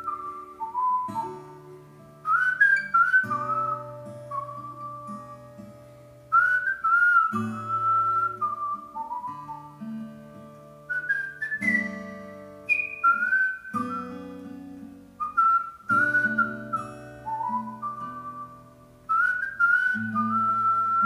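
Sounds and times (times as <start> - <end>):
whistled melody: 0.0 - 5.6, 6.3 - 9.9, 10.9 - 14.6, 15.2 - 21.0
acoustic guitar: 0.0 - 21.0.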